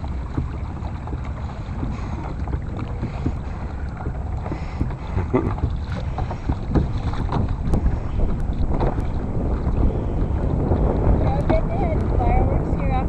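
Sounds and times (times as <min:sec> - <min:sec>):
short water splashes: 0:00.0 - 0:13.0
water lapping against hull: 0:00.0 - 0:13.0
wind buffeting microphone: 0:00.0 - 0:13.0.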